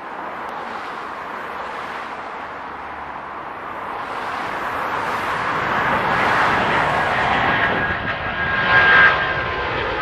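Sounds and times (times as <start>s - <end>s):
jet engines at takeoff thrust: 0.0s - 10.0s.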